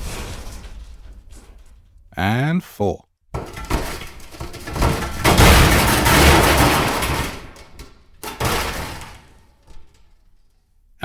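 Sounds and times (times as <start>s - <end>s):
debris crashing onto floor: 0.0s - 2.0s, 3.4s - 10.7s.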